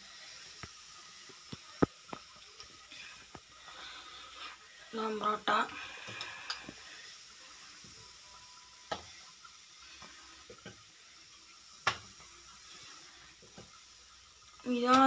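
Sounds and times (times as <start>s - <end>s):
flatbread sizzling in oil: 0.0s - 15.0s.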